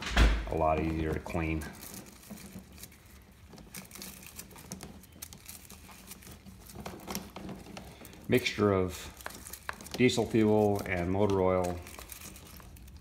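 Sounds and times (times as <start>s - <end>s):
brush scrubbing chain in liquid: 0.6s - 13.0s.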